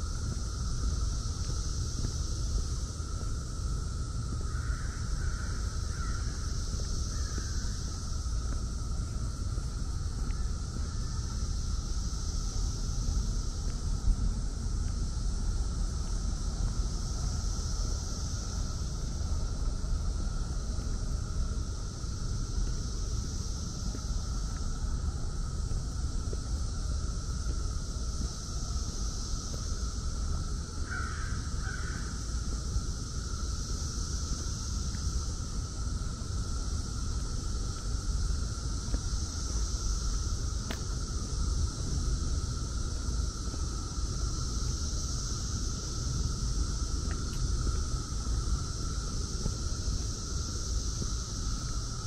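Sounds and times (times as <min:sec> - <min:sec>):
cicadas buzzing: 0:00.0 - 0:52.0
wind rumble on microphone: 0:00.0 - 0:52.0.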